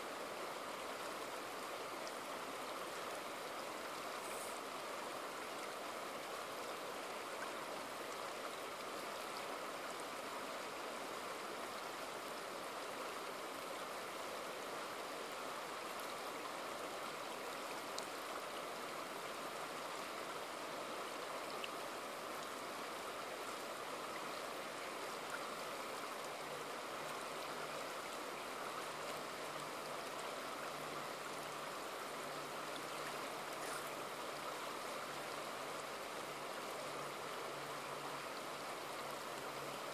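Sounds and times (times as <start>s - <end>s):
river running over stones: 0.0s - 39.9s.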